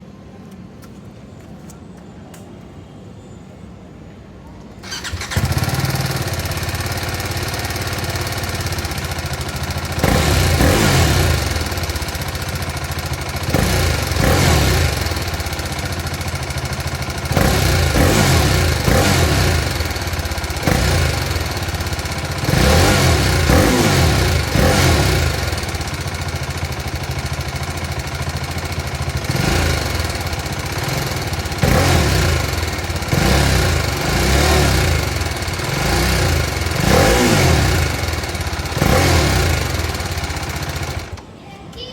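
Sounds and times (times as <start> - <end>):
motorcycle engine idling and revving: 4.8 - 41.2.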